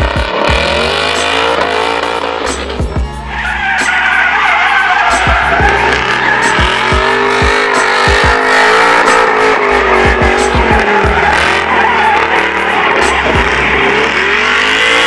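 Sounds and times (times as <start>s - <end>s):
engine revving hard: 0.0s - 15.0s
tyres squealing on tarmac: 0.6s - 15.0s.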